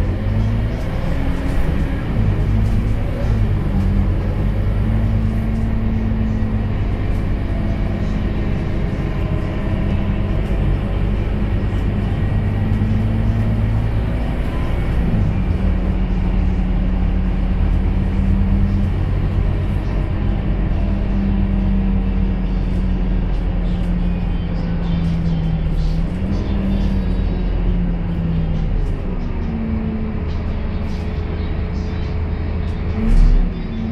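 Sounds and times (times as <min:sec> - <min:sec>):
bus diesel engine running: 0:00.0 - 0:33.9
road rumble: 0:00.0 - 0:33.9.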